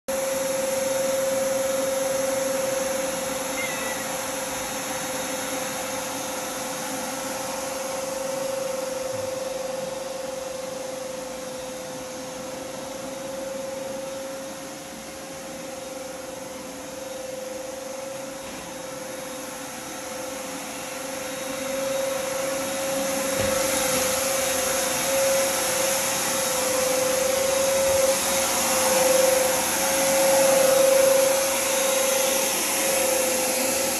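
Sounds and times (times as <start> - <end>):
shop vacuum running: 0.1 - 33.9.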